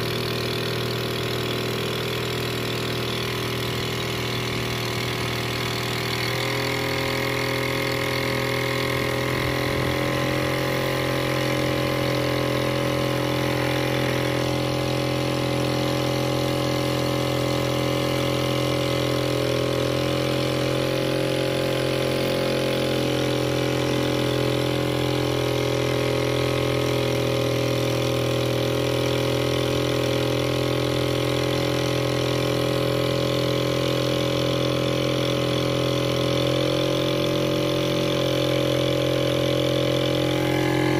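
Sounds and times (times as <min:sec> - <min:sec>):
small boat engine running: 0:00.0 - 0:40.9.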